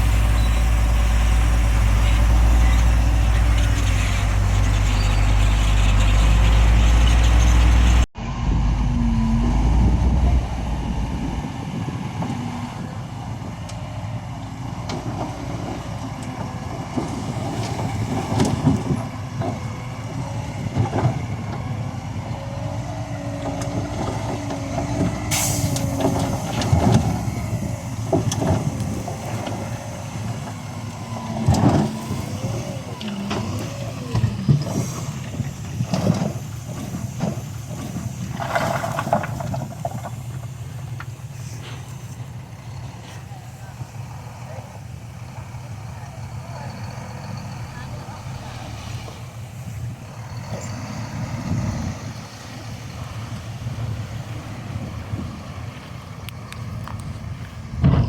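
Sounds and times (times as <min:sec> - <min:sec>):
loud low engine drone: 0:00.0 - 0:58.0
quieter engine running: 0:00.0 - 0:58.0.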